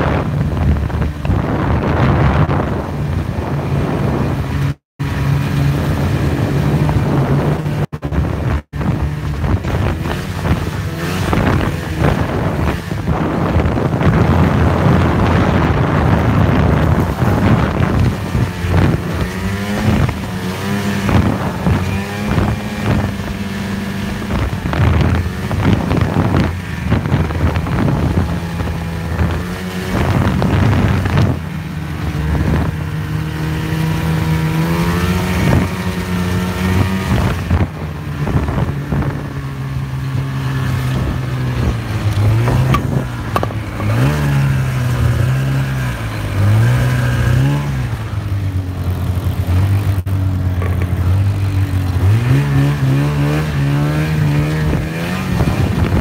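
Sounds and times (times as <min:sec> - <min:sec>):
snowmobile engine running: 0:00.0 - 0:56.0
wind buffeting microphone: 0:00.0 - 0:56.0.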